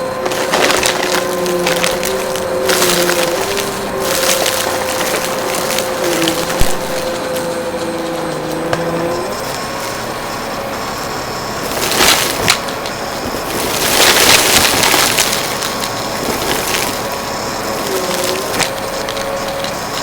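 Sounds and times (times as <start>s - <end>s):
debris crunching in vacuum: 0.0s - 20.0s
vacuum cleaner running: 0.0s - 20.0s.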